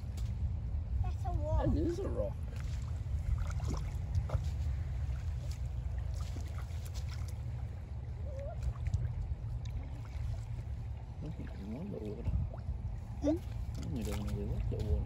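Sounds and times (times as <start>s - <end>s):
wind rumbling on microphone: 0.0s - 15.0s
shallow water splashing: 1.7s - 15.0s.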